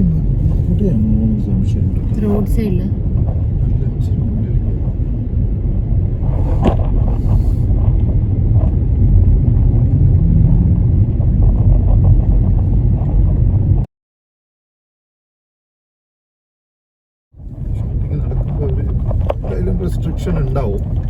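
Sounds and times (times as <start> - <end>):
engine and tyre rumble: 0.0 - 13.9, 17.4 - 21.0.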